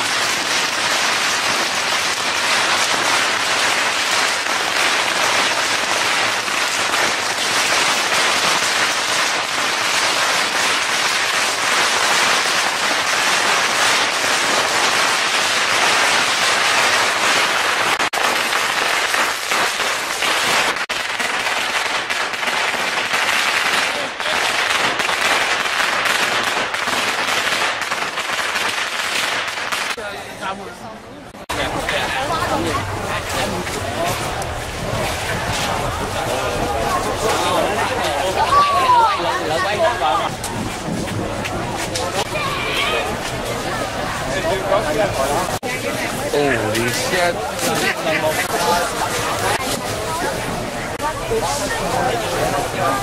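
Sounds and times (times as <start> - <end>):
firecrackers crackling: 0.0 - 30.6, 31.4 - 53.0.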